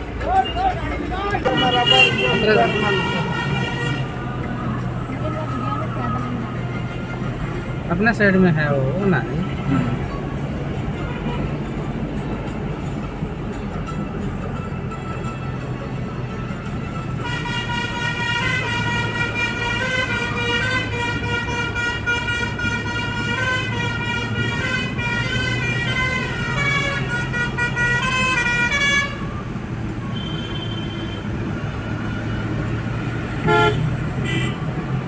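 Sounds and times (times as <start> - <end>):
car engine hum: 0.0 - 35.0.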